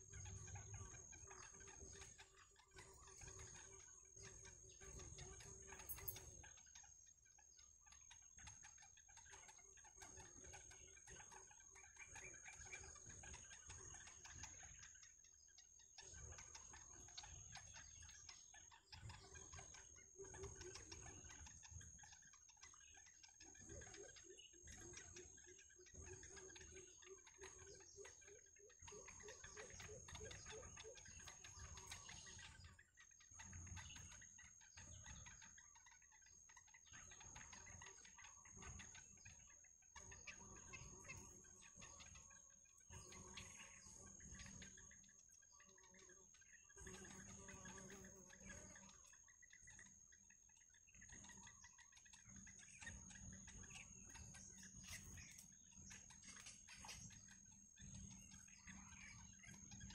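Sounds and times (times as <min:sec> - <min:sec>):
soft bird chirps: 0:00.0 - 0:59.9.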